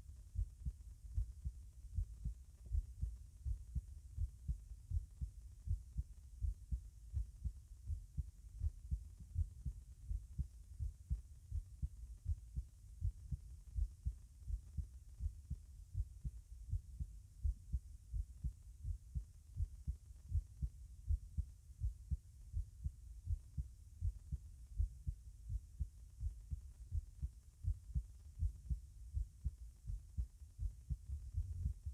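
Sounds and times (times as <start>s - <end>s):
heartbeat thumps: 0.0s - 31.9s.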